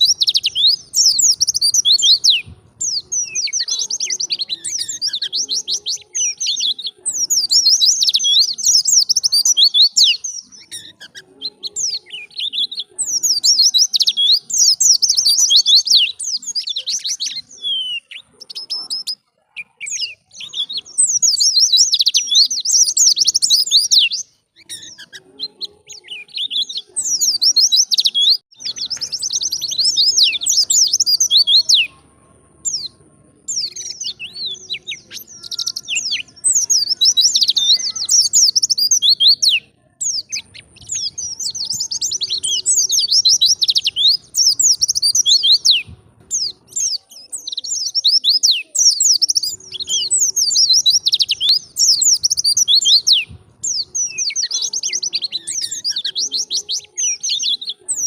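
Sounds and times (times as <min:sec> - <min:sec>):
bird twittering chirps: 0:00.0 - 0:58.0.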